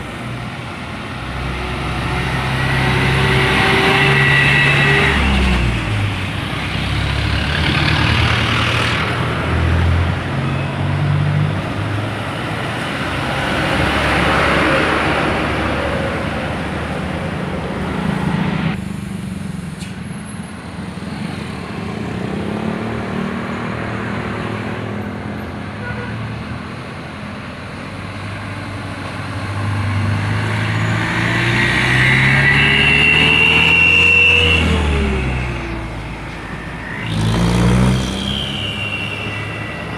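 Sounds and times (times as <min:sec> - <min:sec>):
heavy trucks passing: 0:00.0 - 0:39.9.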